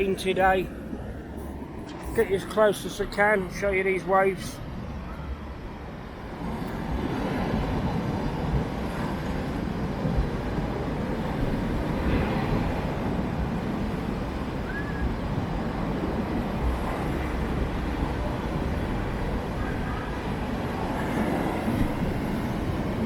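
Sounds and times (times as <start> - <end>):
rough sea surging on shore: 0.0 - 23.0
wind blowing across microphone: 0.0 - 23.0.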